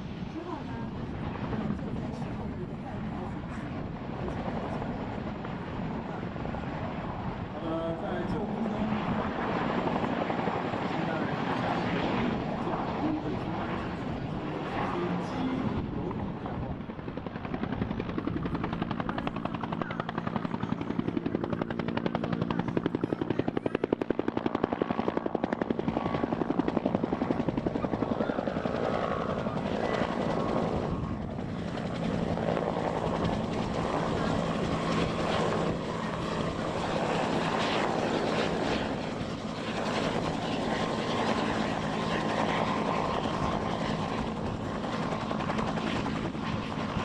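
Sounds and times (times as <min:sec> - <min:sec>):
helicopter flying close by: 0:00.0 - 0:47.0.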